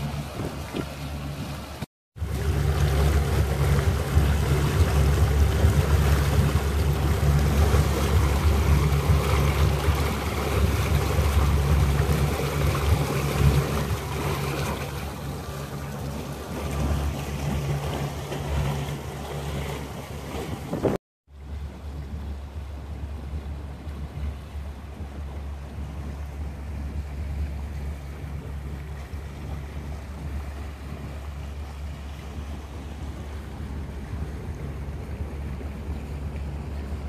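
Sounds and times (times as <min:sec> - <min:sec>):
boat engine drone: 0:00.0 - 0:37.0
water wake rushing: 0:00.0 - 0:37.0
wind buffeting microphone: 0:00.0 - 0:37.0.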